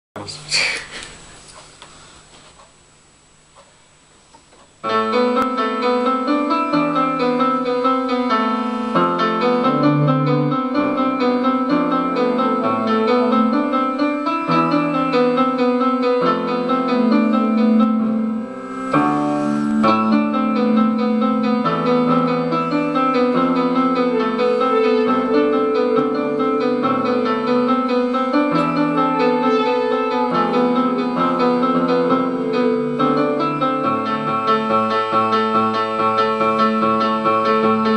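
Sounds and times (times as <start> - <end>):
keyboard playing: 4.8 - 37.9
guitar playing: 4.9 - 37.9.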